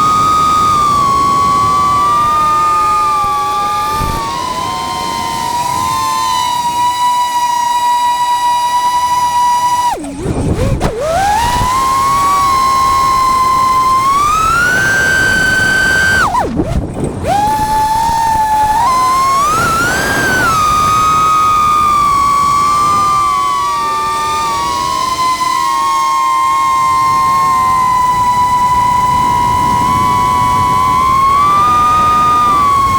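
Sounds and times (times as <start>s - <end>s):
drone motors whining: 0.0s - 32.9s.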